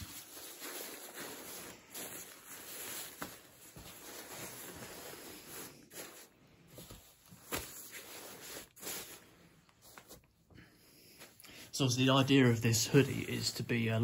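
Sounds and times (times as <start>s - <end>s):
nylon jacket rustling: 0.0s - 10.4s, 11.2s - 14.0s.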